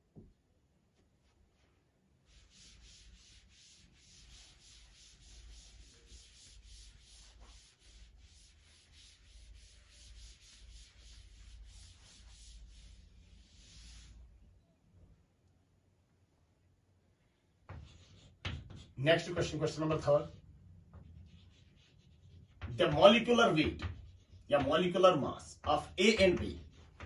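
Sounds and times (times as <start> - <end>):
duster rubbing writing board: 1.6 - 14.3, 17.7 - 27.0.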